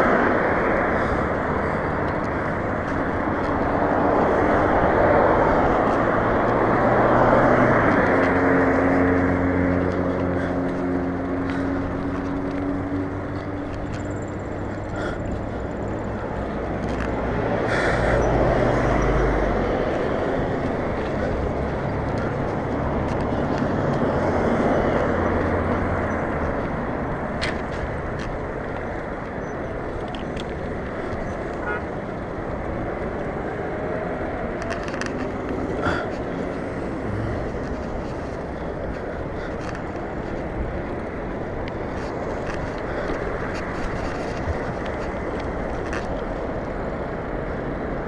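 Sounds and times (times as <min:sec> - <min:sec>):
bike tyres on asphalt: 0:00.0 - 0:48.0
road and traffic noise: 0:00.0 - 0:48.0
wind rush on microphone: 0:00.0 - 0:48.0
bike clicks and rattles: 0:00.2 - 0:48.0.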